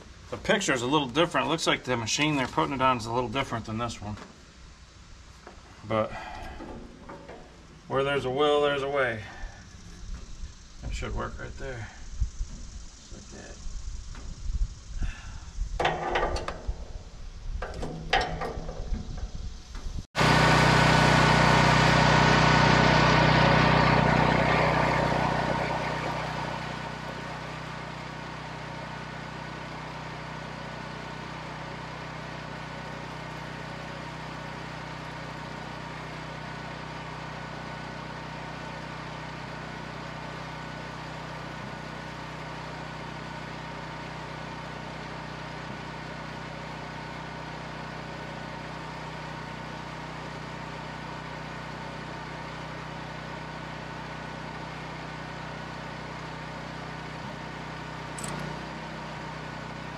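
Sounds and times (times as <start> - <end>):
small engine running: 5.5 - 59.9.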